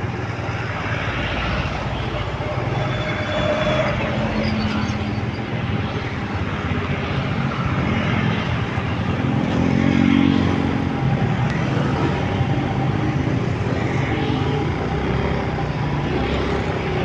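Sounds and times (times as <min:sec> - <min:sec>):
motor scooters passing: 0:00.0 - 0:17.0.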